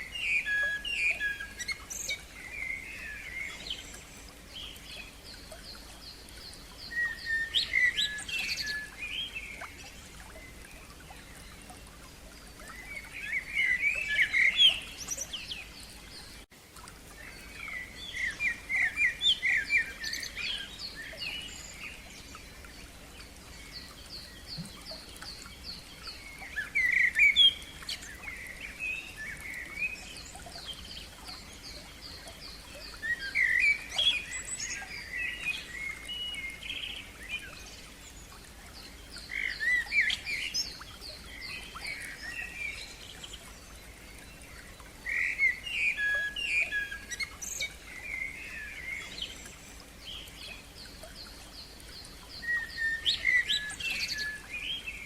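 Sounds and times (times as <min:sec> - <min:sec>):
songbirds warbling: 0:00.0 - 0:55.0.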